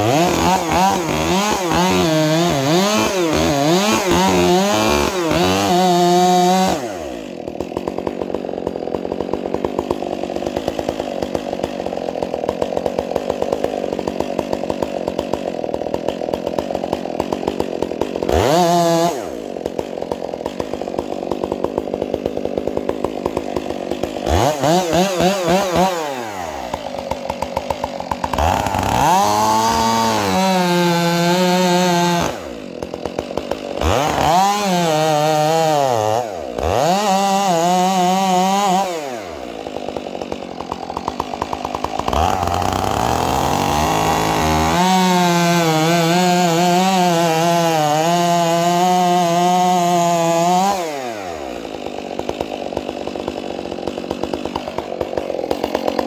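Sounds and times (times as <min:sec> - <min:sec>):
chainsaw engine revving: 0:00.0 - 0:56.0.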